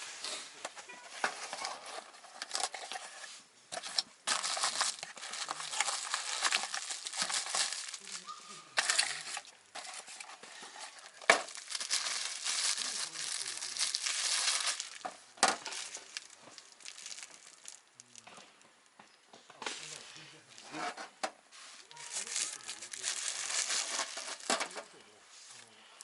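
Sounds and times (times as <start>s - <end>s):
crinkling and rustling: 0.0s - 26.0s.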